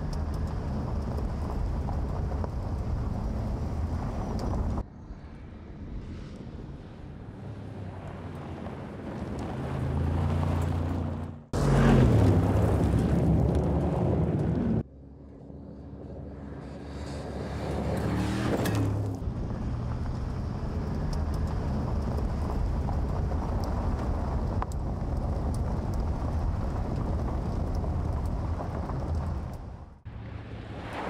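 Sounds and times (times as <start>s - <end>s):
engine driving hard: 0.0s - 4.8s, 6.0s - 31.0s.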